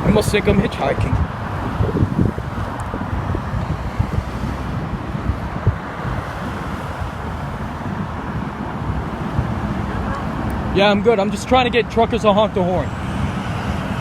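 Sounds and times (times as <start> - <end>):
traffic noise: 0.0 - 14.0
vehicles passing: 0.0 - 14.0
wind buffeting microphone: 0.0 - 14.0.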